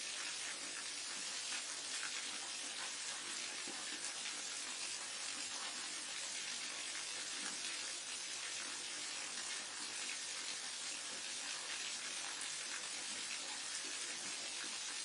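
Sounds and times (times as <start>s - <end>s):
waterfall pouring: 0.0s - 15.0s.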